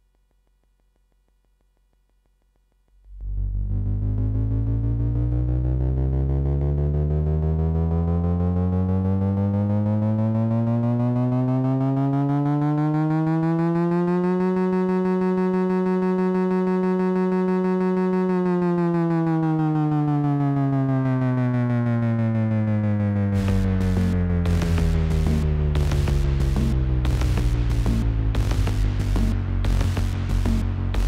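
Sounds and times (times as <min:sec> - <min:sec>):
synthesizer tone gliding in pitch: 0:03.1 - 0:31.0.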